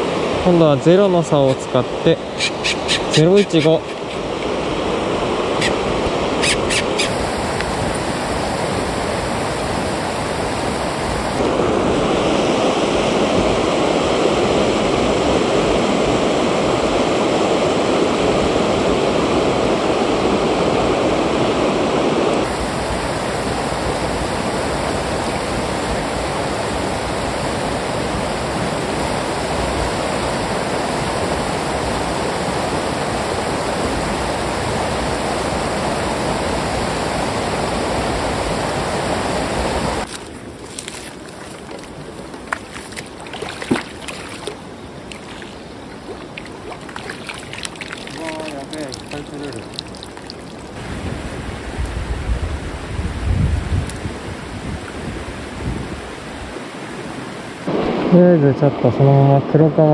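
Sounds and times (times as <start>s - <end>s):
fast-flowing river rushing: 0.0s - 53.0s.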